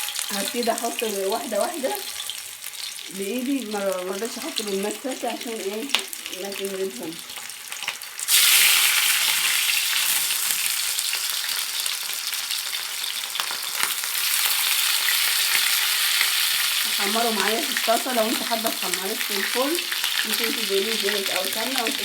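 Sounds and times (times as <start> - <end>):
chicken frying in hot oil: 0.0 - 22.0.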